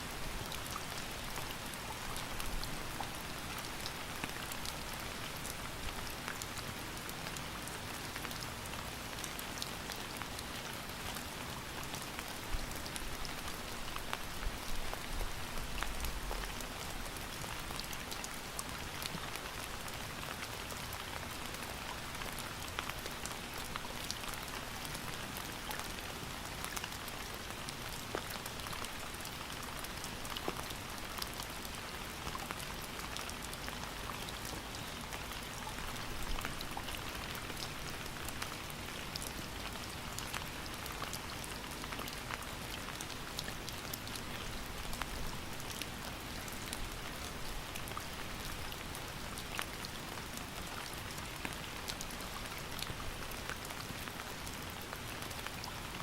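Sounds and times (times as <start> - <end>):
steady rain hiss: 0.0 - 56.0
raindrops ticking on a surface: 0.1 - 56.0.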